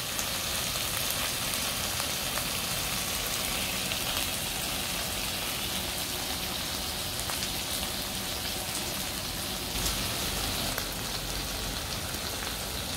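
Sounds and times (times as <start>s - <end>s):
meat sizzling on griddle: 0.0s - 12.9s.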